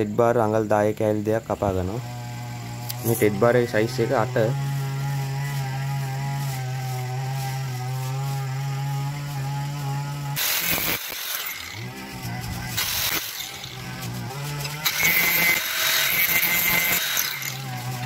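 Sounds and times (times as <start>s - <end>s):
steady humming tone: 1.5s - 18.0s
angle grinder cutting steel: 1.9s - 18.0s.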